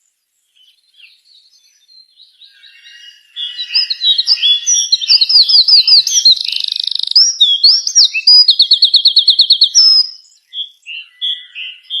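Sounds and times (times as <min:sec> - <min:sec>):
soft bird chirps: 0:00.0 - 0:12.0
songbird singing: 0:00.0 - 0:12.0.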